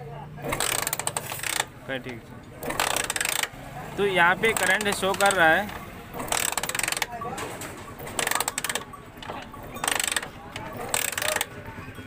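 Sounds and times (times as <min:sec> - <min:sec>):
wire sparking against engine: 0:00.4 - 0:11.7.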